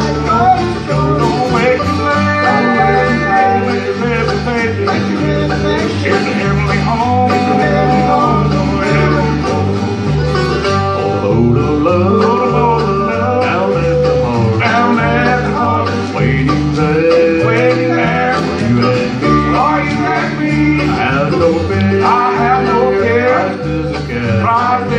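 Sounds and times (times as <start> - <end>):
acoustic guitars: 0.0 - 24.9
banjo: 0.0 - 24.9
mandolin: 0.0 - 24.9
upright bass: 0.0 - 24.9.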